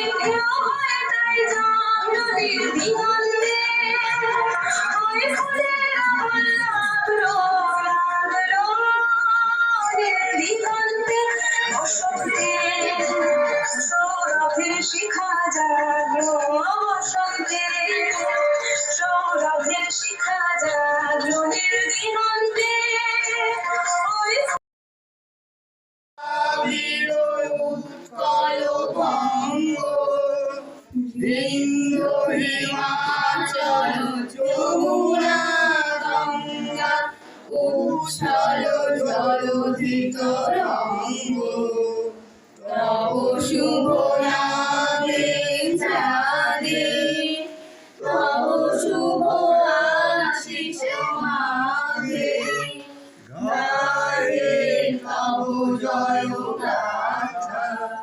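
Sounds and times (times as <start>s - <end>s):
group of men and women singing: 0.0s - 24.5s, 26.2s - 58.0s.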